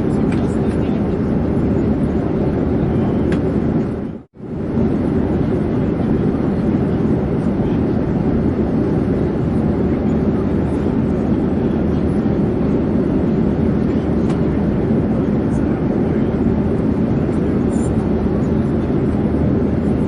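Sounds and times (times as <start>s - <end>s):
airplane drone in flight: 0.0s - 20.0s.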